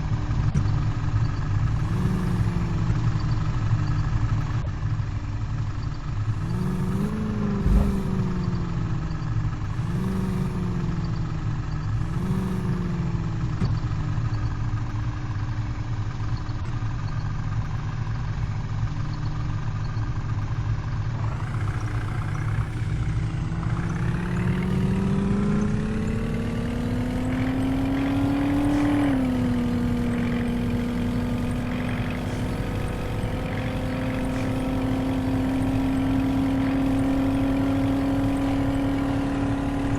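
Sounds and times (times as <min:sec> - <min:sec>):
truck engine revving and idling: 0:00.0 - 0:39.9.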